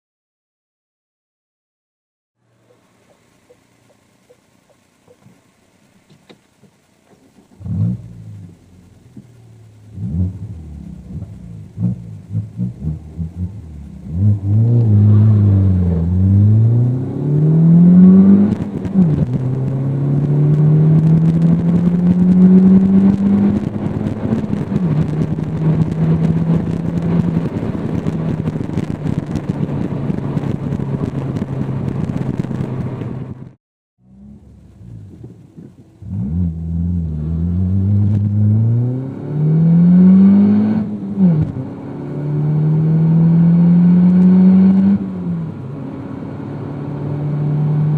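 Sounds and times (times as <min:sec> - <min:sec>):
car engine accelerating: 0:02.4 - 0:47.9.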